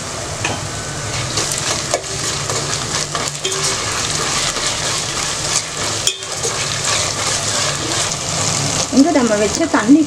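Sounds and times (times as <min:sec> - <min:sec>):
onions sizzling in hot oil: 0:00.8 - 0:10.0
steel ladle stirring pot: 0:01.1 - 0:09.6.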